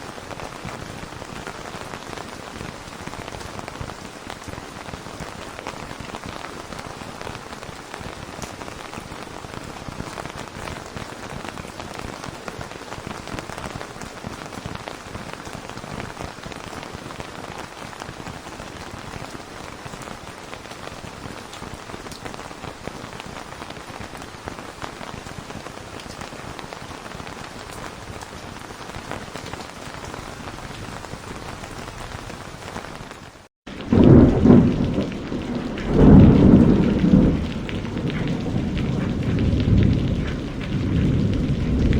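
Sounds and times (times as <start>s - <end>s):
steady rain patter: 0.0s - 41.9s.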